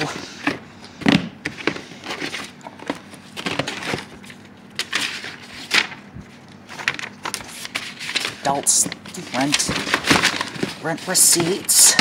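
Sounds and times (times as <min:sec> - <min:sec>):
rummaging through papers: 0:00.0 - 0:12.0.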